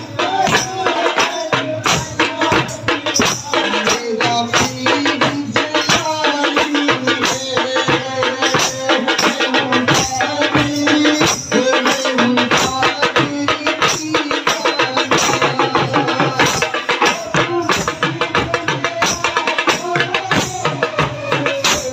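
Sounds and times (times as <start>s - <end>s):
large drums beaten fast: 0.0s - 21.9s.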